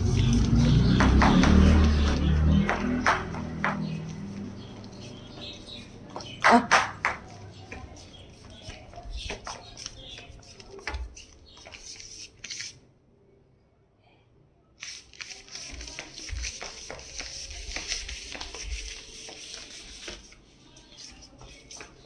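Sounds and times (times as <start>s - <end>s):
puppy claws clicking on tiled floor: 0.0s - 12.8s, 14.8s - 22.0s.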